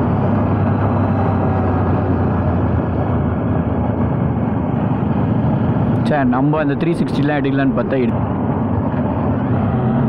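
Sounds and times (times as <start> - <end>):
road noise: 0.0 - 10.0
wind noise: 0.0 - 10.0.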